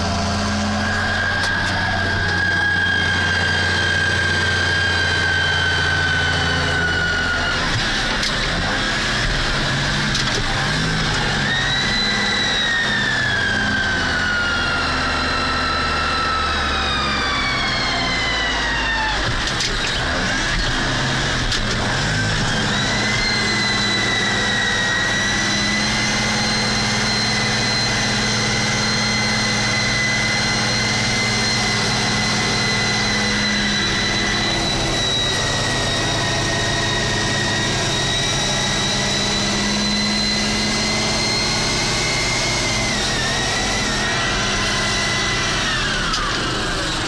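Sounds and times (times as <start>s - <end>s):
high whine: 0.0s - 47.0s
tractor engine running: 0.0s - 47.0s.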